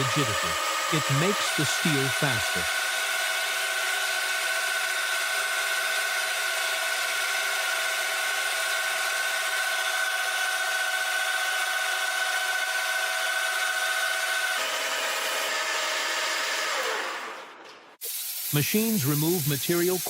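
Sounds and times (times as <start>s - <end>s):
milling machine cutting steel: 0.0s - 17.8s, 18.5s - 20.0s.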